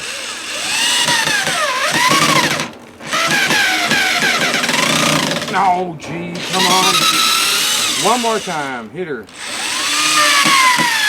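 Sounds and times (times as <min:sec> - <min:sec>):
power drill driving screw into wood: 0:00.0 - 0:05.6, 0:06.4 - 0:08.7, 0:09.3 - 0:11.0.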